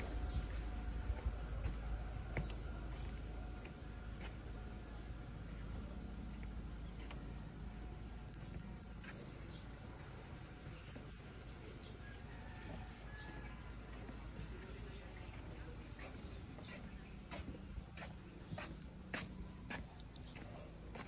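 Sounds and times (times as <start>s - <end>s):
faint insects chirping: 0.0s - 21.0s
low steady rumble: 0.0s - 21.0s.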